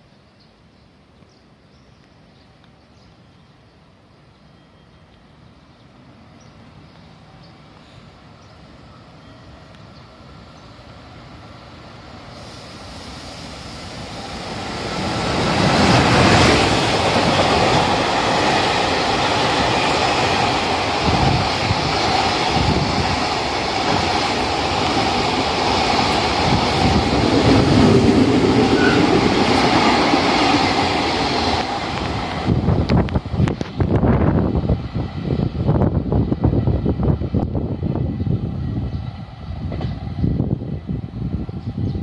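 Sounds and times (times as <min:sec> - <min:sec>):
electric locomotive rumble: 0:04.1 - 0:42.0.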